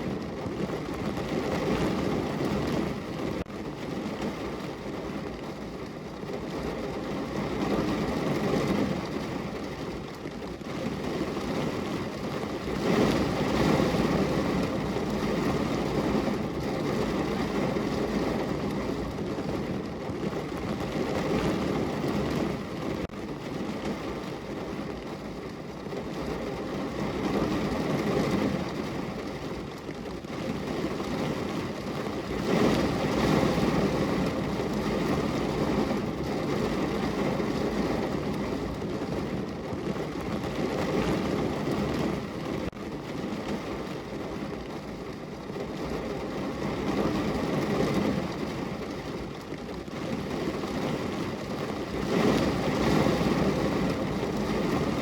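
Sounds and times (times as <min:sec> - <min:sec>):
heavy rain on a car roof: 0:00.0 - 0:55.0.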